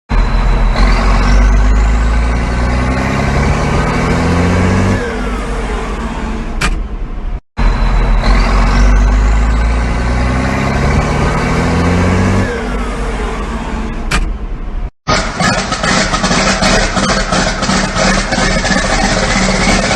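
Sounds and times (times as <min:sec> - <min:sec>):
diesel tractor engine running: 0:00.1 - 0:19.9.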